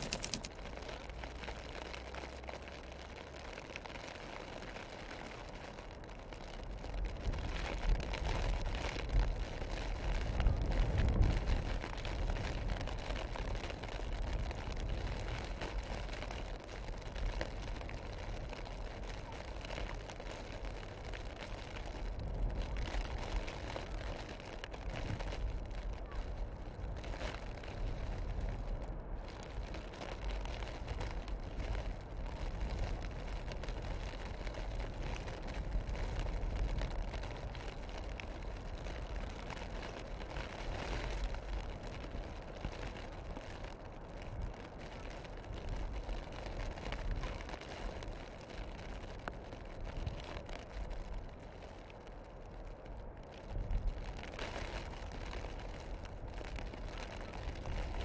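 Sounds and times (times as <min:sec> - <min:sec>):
wind gusting through forest: 0:00.0 - 0:58.0.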